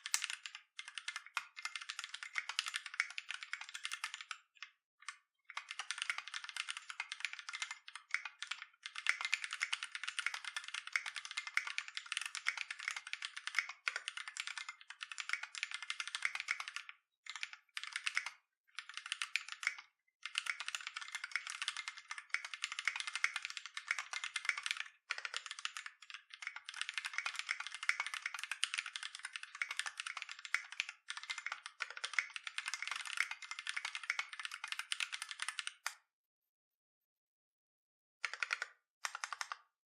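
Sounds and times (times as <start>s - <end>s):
mechanical keyboard typing: 0.0s - 36.0s, 38.2s - 39.6s.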